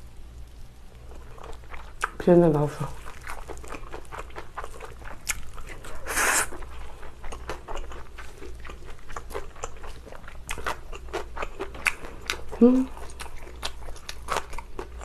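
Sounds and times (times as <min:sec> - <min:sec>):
chewing with wet clicks: 0:00.9 - 0:02.3, 0:03.0 - 0:15.0.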